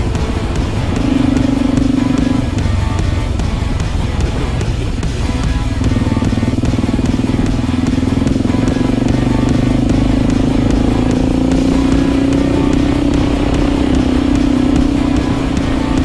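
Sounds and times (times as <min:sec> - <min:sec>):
background music: 0:00.0 - 0:16.0
dirt bike engine running: 0:00.0 - 0:16.0.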